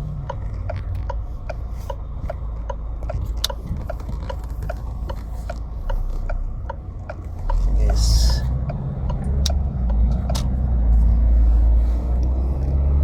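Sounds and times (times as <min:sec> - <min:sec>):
light even ticking: 0:00.0 - 0:10.8
car engine humming: 0:00.0 - 0:13.0.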